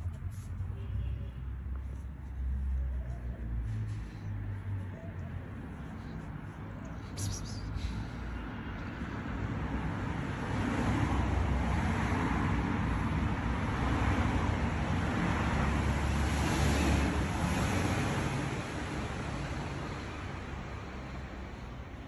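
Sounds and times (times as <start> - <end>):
passing road traffic: 0.0 - 22.0.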